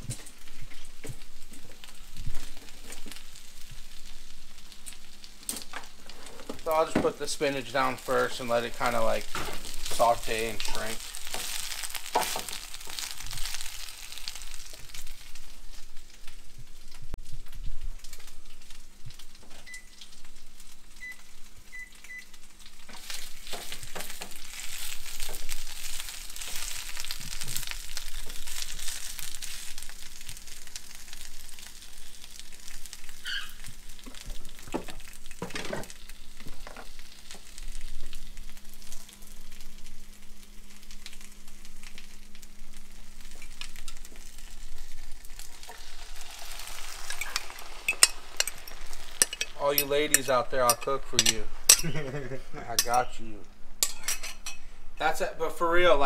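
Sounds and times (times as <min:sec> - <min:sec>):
spinach sizzling in a frying pan: 0:00.0 - 0:56.0.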